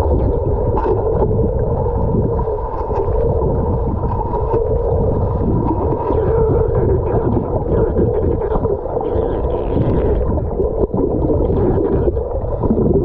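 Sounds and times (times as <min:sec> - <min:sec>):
muffled underwater water rush: 0:00.0 - 0:13.0.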